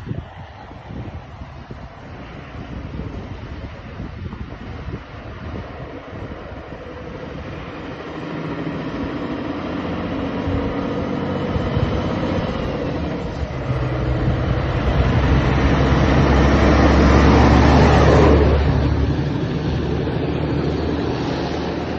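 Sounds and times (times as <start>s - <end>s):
truck diesel engine passing: 0.0s - 21.9s.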